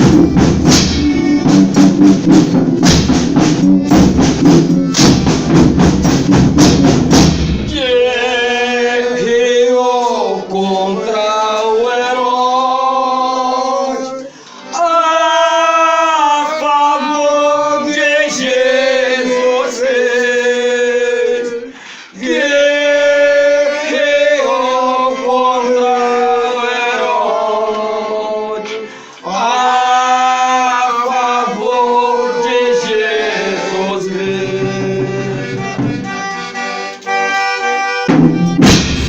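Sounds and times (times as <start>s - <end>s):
accordion melody: 0.0s - 39.0s.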